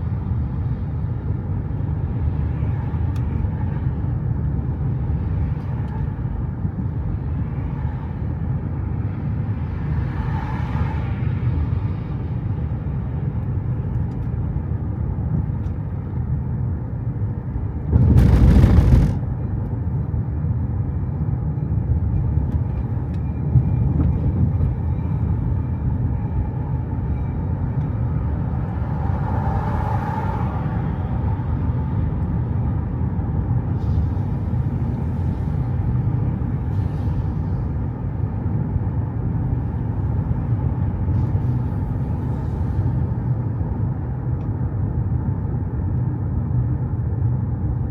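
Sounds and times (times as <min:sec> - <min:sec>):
vehicle rumble: 0:00.0 - 0:47.9.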